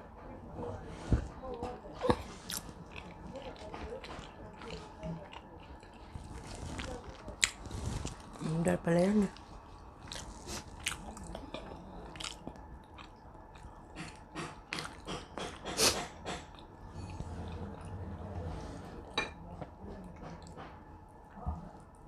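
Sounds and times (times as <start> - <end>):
crunchy chewing of food: 0.6 - 22.0.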